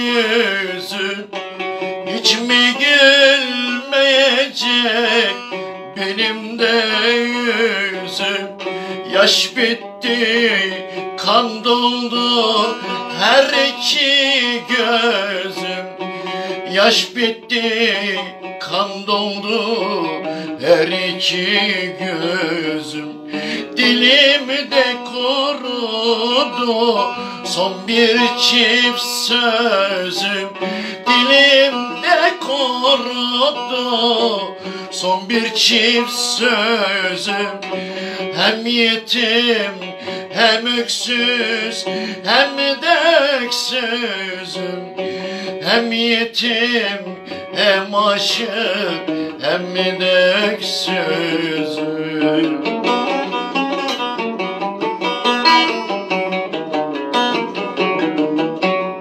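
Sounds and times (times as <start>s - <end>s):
man singing: 0.0s - 53.8s
plucked long-necked lute: 0.0s - 59.0s.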